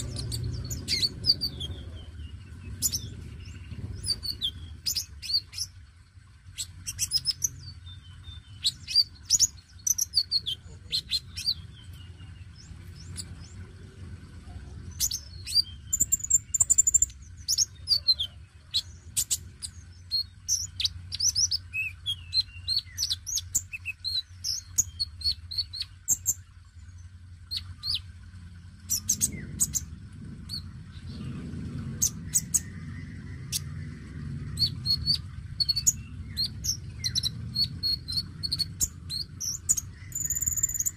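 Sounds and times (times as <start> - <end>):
low background rumble: 0.0 - 40.9
sunbird singing: 0.0 - 40.9.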